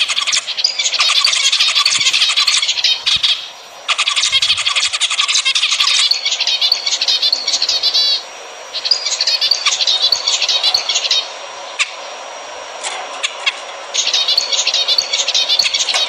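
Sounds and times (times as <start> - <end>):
finches singing buzzy notes: 0.0 - 16.0.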